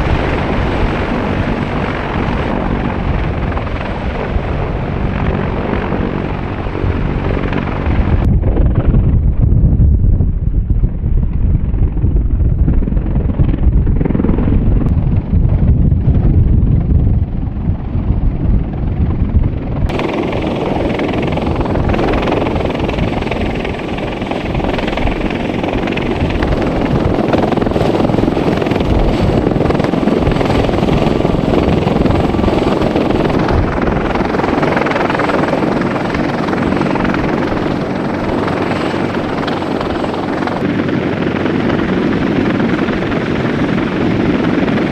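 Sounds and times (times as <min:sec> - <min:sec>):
helicopter rotor and turbine noise: 0:00.0 - 0:44.9.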